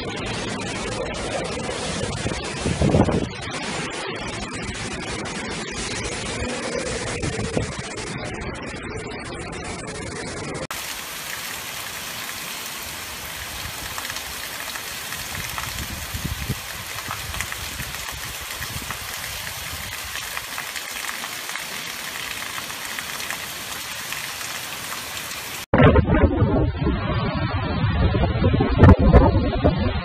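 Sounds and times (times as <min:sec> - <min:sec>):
heavy driving rain: 0:00.0 - 0:08.4, 0:10.6 - 0:29.9
wind gusts: 0:00.0 - 0:30.0.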